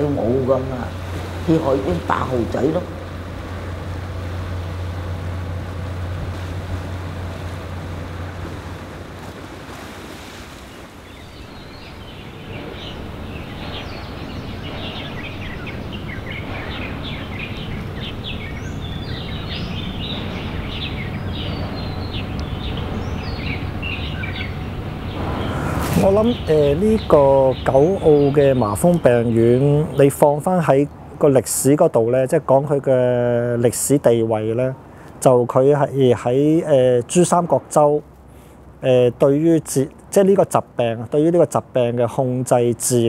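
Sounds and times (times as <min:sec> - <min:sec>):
birds chirping: 0:00.0 - 0:43.0
boat engine drone: 0:00.0 - 0:43.0
sea wash: 0:00.0 - 0:43.0.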